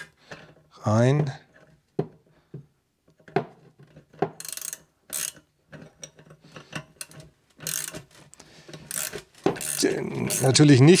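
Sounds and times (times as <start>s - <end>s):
wrenches clicking and rattling on metal: 0.2s - 2.3s, 3.1s - 11.0s.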